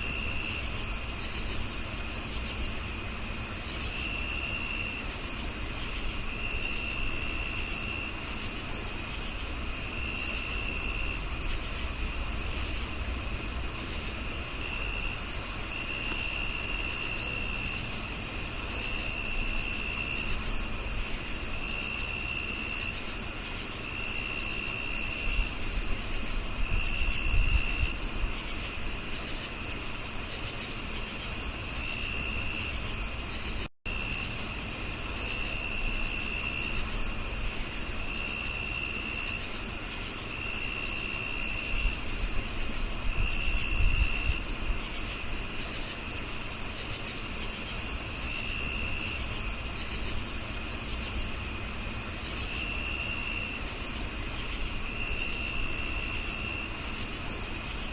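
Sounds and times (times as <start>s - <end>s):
crickets chirping: 0.0s - 57.9s
high insect drone: 0.0s - 57.9s
lower insect trill: 0.0s - 57.9s.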